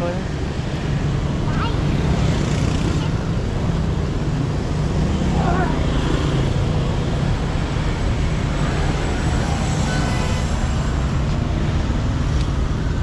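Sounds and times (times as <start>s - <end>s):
motorbikes and cars passing: 0.0s - 13.0s.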